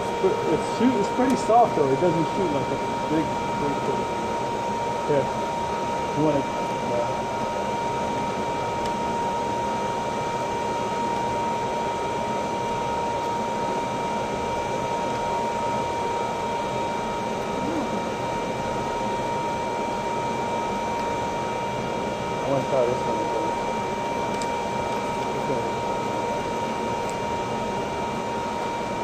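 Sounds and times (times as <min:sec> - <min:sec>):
machinery hum with high whine: 0:00.0 - 0:29.0.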